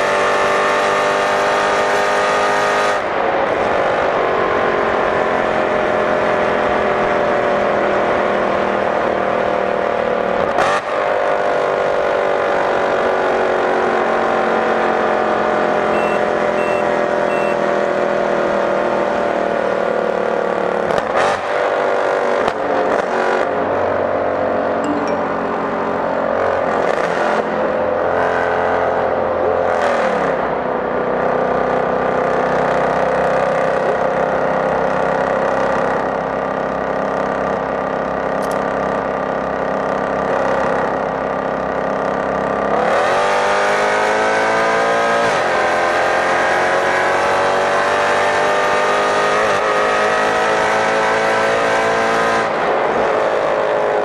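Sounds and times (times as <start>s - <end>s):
car engine running hard in tunnel: 0.0s - 24.8s, 25.6s - 54.0s.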